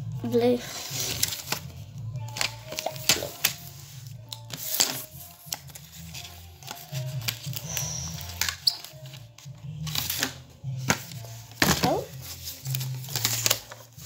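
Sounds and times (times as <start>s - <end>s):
plastic packaging clicks and rustles: 1.0s - 3.7s, 4.3s - 14.0s.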